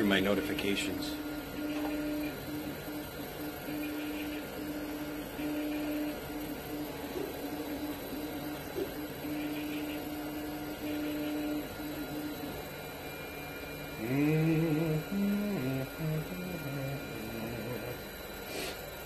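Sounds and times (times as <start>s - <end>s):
pitched motor notes: 0.0s - 18.7s
three d printers humming: 0.0s - 19.0s.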